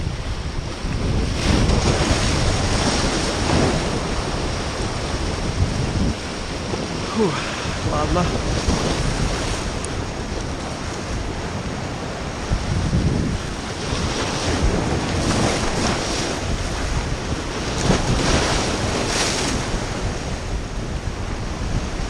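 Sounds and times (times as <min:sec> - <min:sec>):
surf breaking over rocks: 0:00.0 - 0:21.1
wind buffeting microphone: 0:00.0 - 0:22.0.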